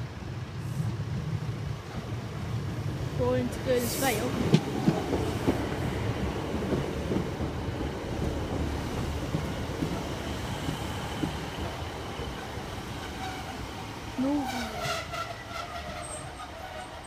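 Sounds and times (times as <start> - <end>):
train rumbling past on rails: 0.0 - 17.0.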